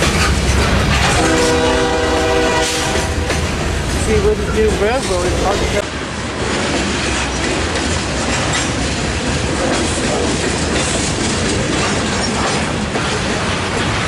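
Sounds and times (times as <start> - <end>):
wheels clicking over rail joints: 0.0 - 1.6, 2.8 - 14.0
train wheels rumbling on rail: 0.0 - 14.0.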